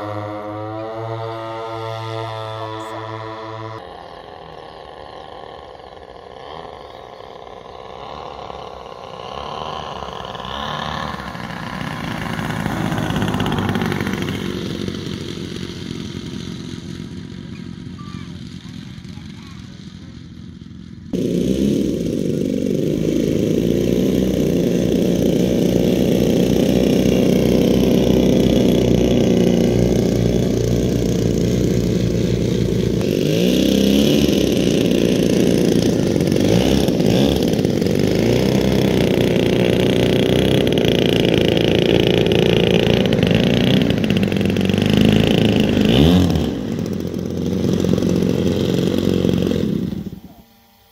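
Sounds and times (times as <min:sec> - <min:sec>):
model aircraft engines running: 0:00.0 - 0:50.9.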